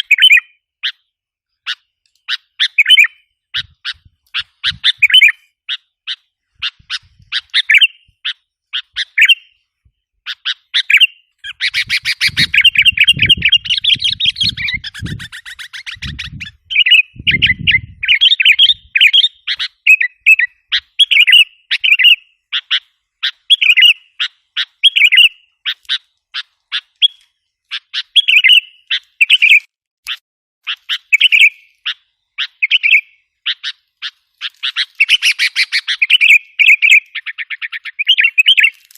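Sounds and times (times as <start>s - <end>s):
bird chirping calls: 0.0s - 38.9s.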